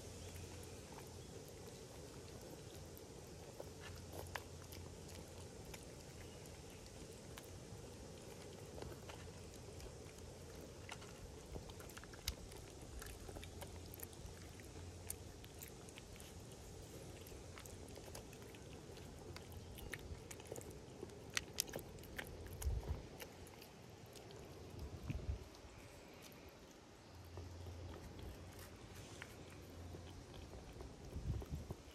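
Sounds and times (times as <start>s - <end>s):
cat chewing food: 0.0s - 31.9s.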